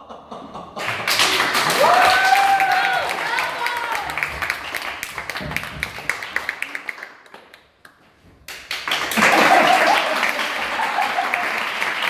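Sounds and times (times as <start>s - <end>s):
audience applause: 0.8s - 7.6s, 8.5s - 12.0s.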